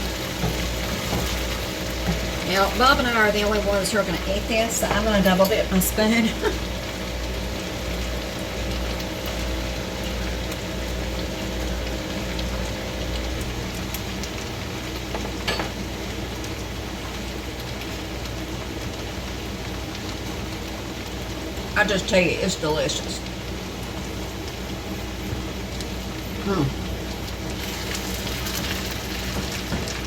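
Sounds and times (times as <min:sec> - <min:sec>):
rice sizzling in oil: 0:00.0 - 0:30.0.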